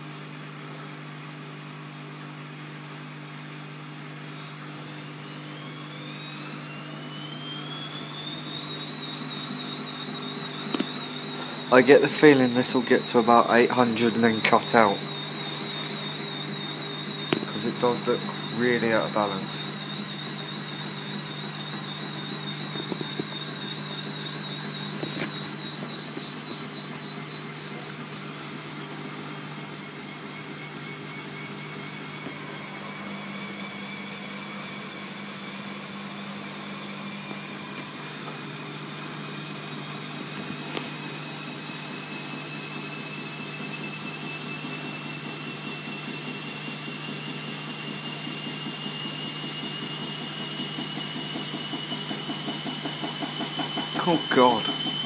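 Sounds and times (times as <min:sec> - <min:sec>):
washing machine motor whine rising: 0:00.0 - 0:55.0.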